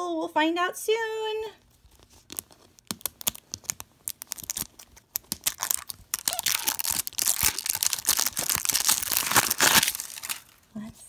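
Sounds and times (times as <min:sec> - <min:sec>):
plastic wrapping crinkling: 0:01.7 - 0:10.8.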